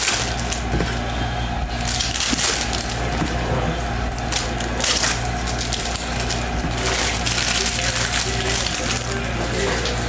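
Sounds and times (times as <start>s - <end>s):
foil wrapper crinkling: 0.0s - 1.0s, 1.8s - 3.4s, 4.1s - 10.0s.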